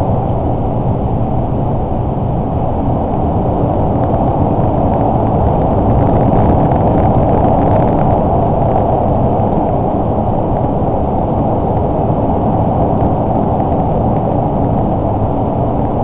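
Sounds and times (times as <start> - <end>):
train rumble and roar inside car: 0.0 - 16.0.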